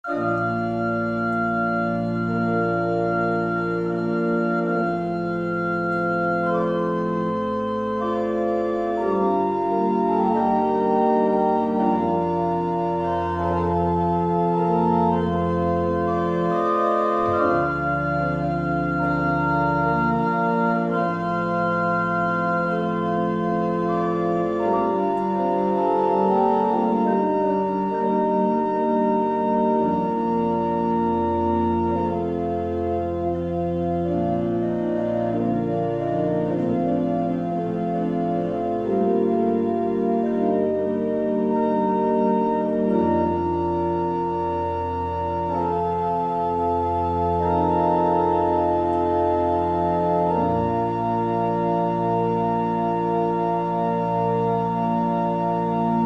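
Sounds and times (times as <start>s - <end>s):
organ chords: 0.0s - 56.0s.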